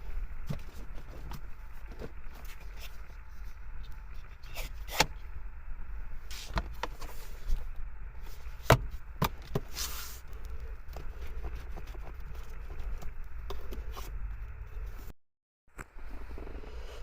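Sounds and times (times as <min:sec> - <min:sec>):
steady low rumble: 0:00.0 - 0:15.1.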